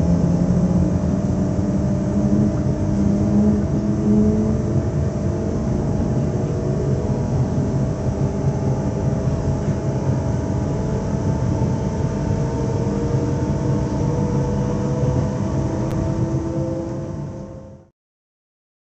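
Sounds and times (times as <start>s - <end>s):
electrical hum tones: 0.0s - 17.9s
train equipment low rumble: 0.0s - 17.9s.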